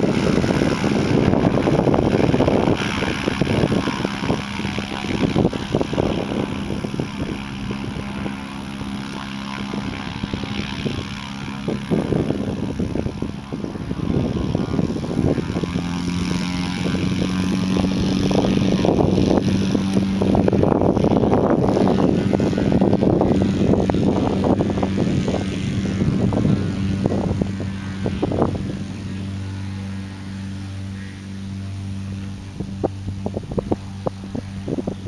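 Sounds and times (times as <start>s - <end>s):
engine droning: 0.0s - 35.0s
heavy rumbling and buffeting: 0.0s - 35.0s.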